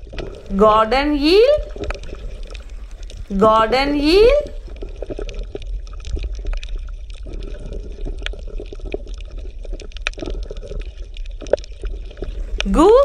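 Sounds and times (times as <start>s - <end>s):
aquarium water bubbling: 0.0s - 13.0s.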